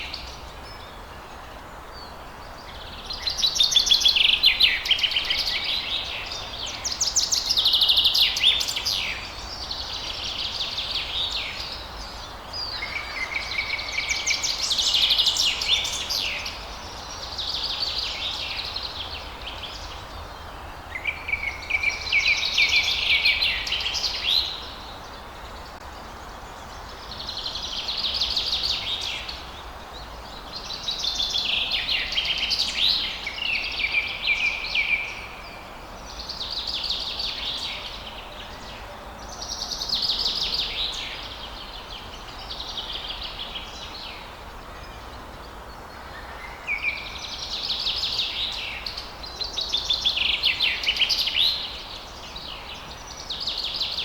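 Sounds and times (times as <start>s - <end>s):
faint background hiss: 0.0s - 54.0s
songbird singing: 0.0s - 54.0s.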